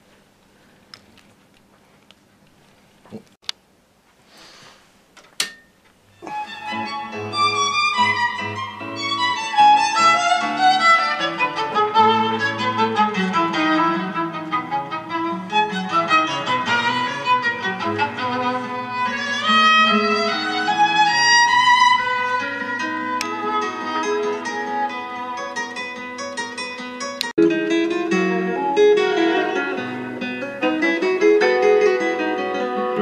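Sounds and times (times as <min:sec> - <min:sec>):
violin music through amplifier: 0:06.2 - 0:33.0.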